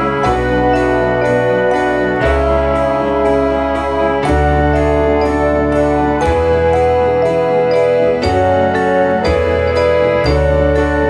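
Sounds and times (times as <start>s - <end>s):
organ-like keyboard chords: 0.0s - 11.0s.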